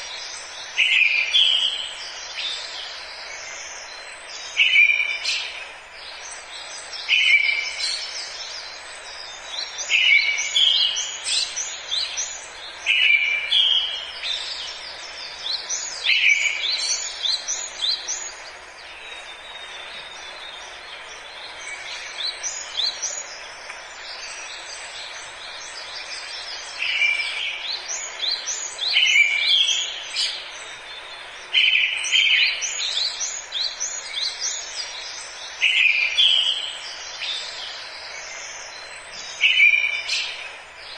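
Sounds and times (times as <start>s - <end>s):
songbirds chirping: 0.0s - 40.9s
steady background hiss: 0.0s - 40.9s.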